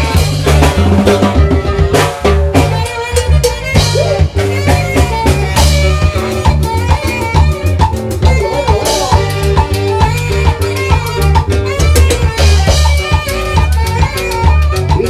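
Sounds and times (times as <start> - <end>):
drum kit dance beat: 0.0 - 15.0
live band music: 0.0 - 15.0.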